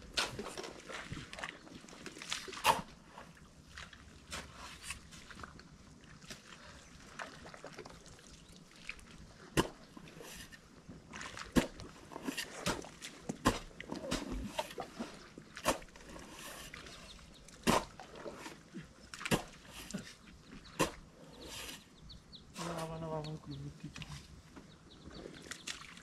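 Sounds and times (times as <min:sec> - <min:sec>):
mud squelching and water sloshing: 0:00.0 - 0:23.0, 0:23.8 - 0:26.0.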